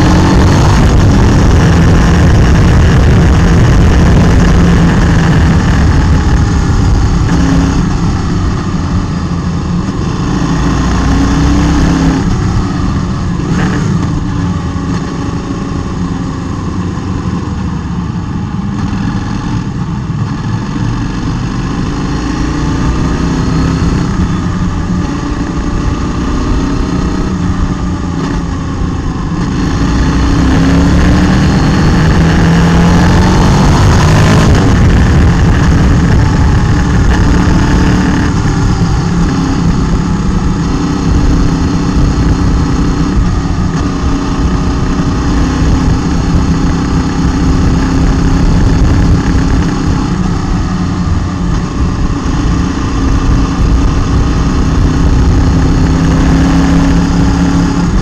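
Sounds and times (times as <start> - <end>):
motorcycle engine revving: 0.0 - 58.0
wind rushing on microphone: 0.0 - 58.0.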